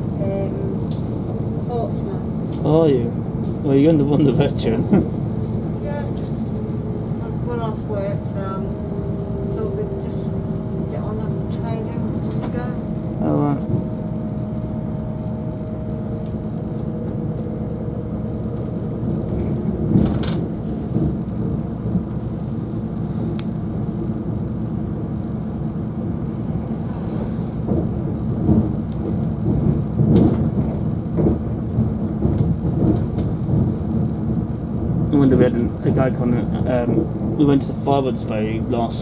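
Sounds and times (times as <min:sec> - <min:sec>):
diesel engine rumble: 0:00.0 - 0:39.0
train wheels on rails: 0:00.1 - 0:39.0
track clacks and knocks: 0:00.8 - 0:22.2, 0:25.7 - 0:39.0.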